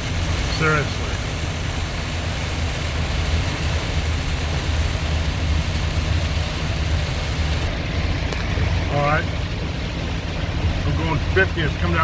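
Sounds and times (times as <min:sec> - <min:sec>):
low road rumble: 0:00.0 - 0:12.0
rain hissing on car: 0:00.0 - 0:12.0.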